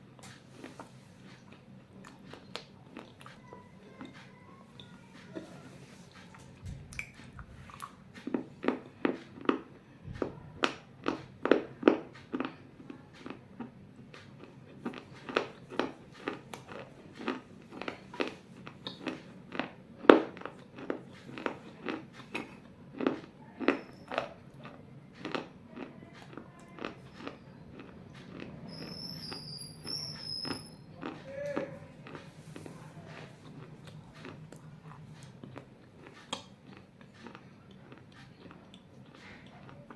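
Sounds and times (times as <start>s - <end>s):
crunching of clay being chewed: 0.0s - 39.9s.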